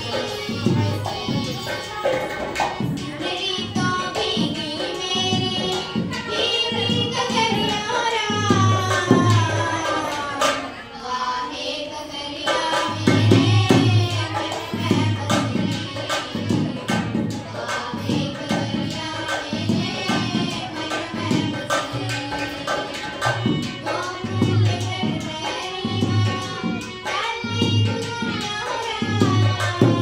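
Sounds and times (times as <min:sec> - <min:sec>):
drum accompaniment: 0:00.0 - 0:10.8, 0:12.4 - 0:30.0
girl singing into a microphone: 0:00.0 - 0:30.0.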